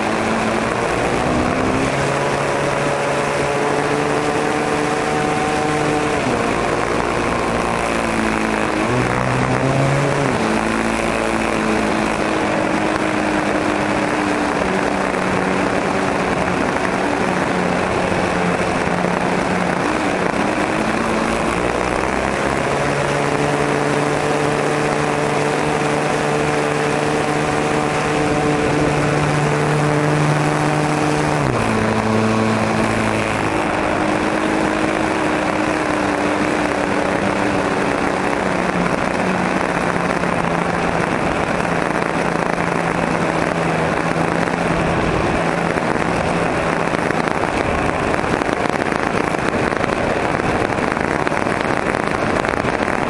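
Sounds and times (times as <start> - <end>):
wind rush: 0.0 - 53.0.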